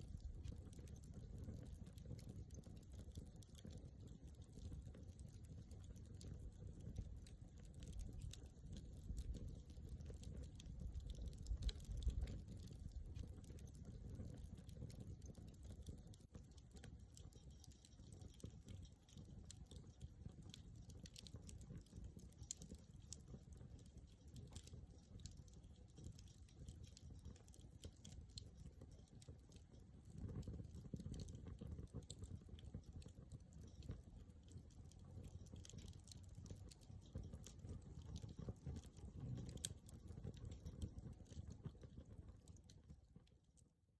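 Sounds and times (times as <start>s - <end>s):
campfire crackling: 0.0s - 43.7s.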